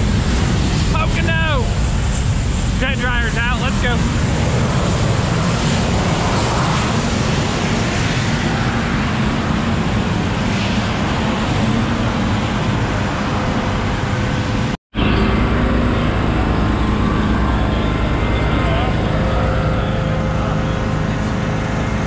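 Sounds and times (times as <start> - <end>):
loud engine drone: 0.0 - 22.0
wash of noise: 0.0 - 22.0.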